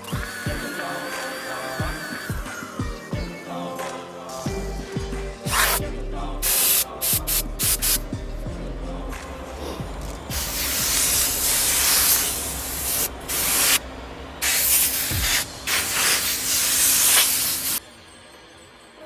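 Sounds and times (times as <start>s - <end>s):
loud spraying hiss: 0.0s - 3.1s, 3.8s - 8.2s, 9.2s - 17.8s.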